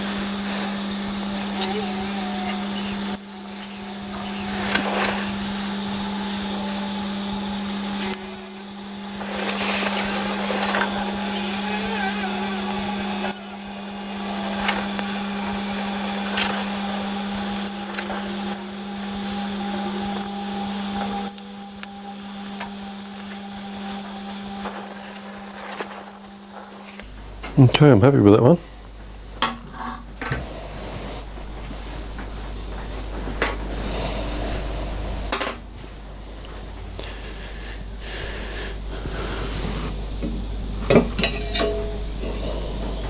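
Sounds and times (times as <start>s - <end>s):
brazing torch hiss: 0.0s - 27.1s, 30.2s - 43.0s
steady hum: 0.0s - 43.0s.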